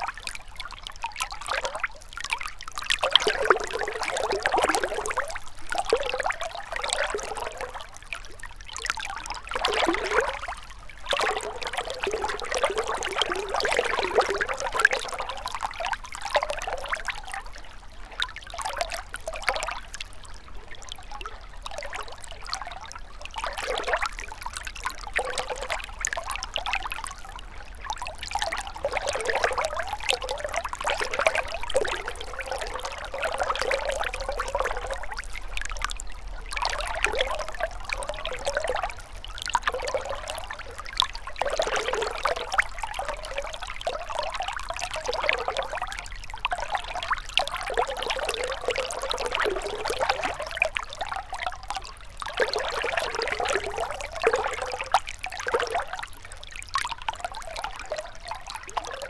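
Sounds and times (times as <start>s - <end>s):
river water trickling and splashing: 0.0s - 59.0s.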